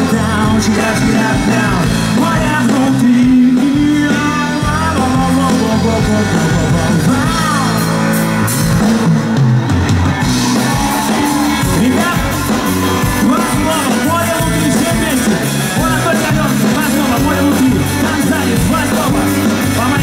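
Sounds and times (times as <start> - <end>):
person singing: 0.0 - 8.2, 11.0 - 20.0
live rock band: 0.0 - 20.0.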